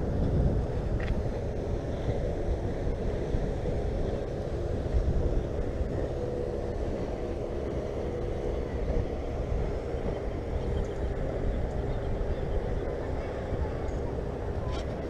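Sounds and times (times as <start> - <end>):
boat motor humming: 0.0 - 15.0
wind rumbling on microphone: 0.0 - 15.0.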